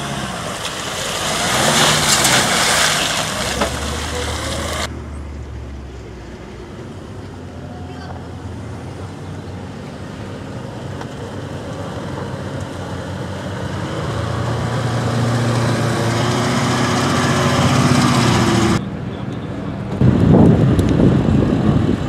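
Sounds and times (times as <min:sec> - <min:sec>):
suv engine at low revs: 0:00.0 - 0:18.8.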